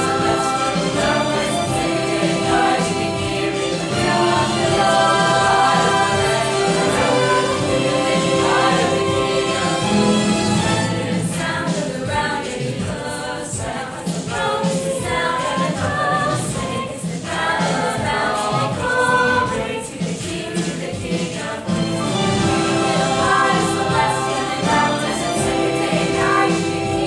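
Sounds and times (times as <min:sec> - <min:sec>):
choir singing in harmony: 0:00.0 - 0:27.0.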